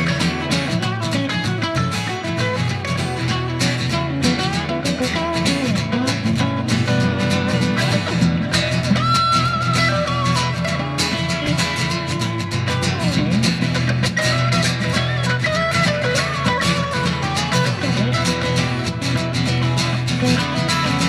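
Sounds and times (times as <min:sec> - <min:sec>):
lead guitar sliding notes: 0:00.0 - 0:21.0
rock band playing: 0:00.0 - 0:21.0.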